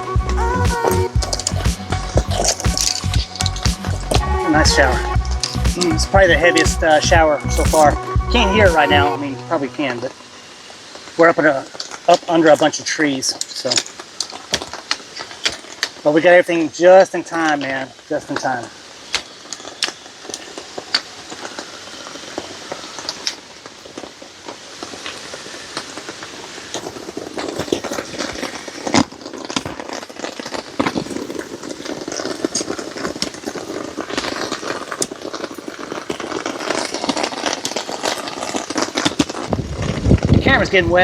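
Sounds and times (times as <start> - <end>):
heavy rain through trees: 0.0 - 41.0.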